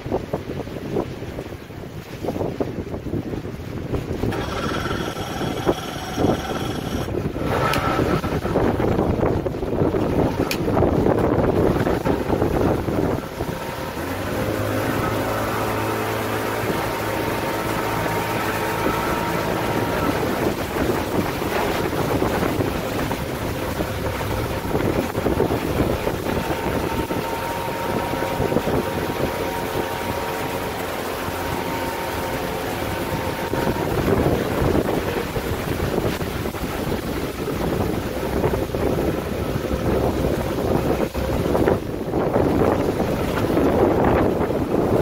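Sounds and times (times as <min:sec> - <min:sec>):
outboard motor running: 0:00.0 - 0:45.0
water rushing past hull: 0:00.0 - 0:45.0
wind on microphone: 0:00.0 - 0:45.0.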